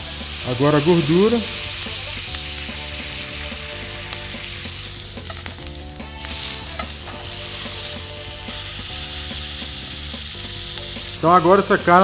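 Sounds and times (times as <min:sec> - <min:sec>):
steak sizzling in a frying pan: 0:00.0 - 0:12.0.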